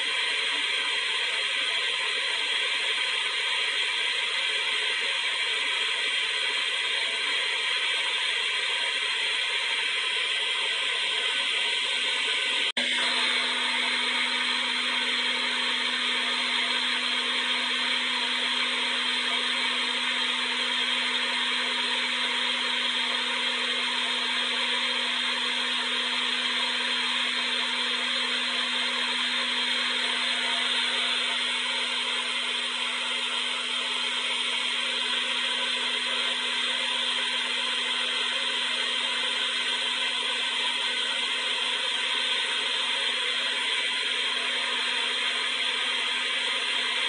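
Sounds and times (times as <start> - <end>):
hair dryer running: 0.0 - 47.0.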